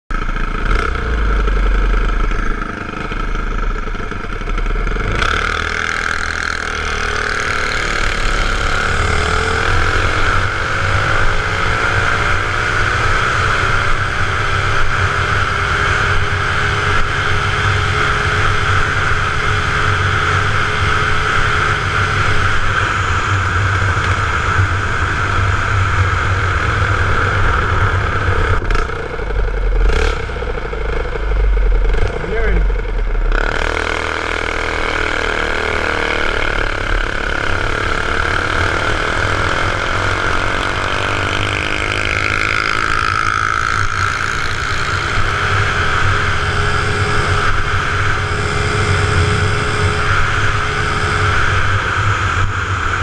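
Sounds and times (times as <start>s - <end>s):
minibike engine running: 0.1s - 53.0s.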